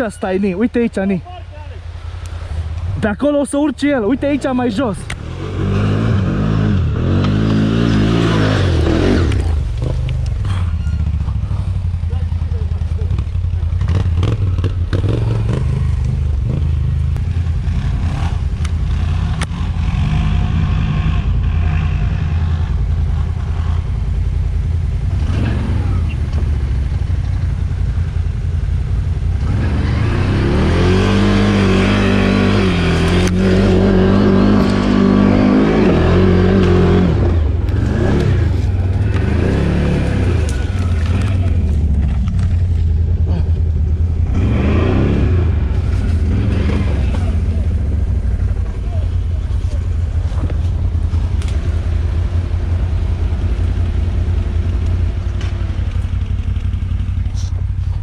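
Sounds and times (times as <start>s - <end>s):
atv engine revving: 1.8s - 58.0s.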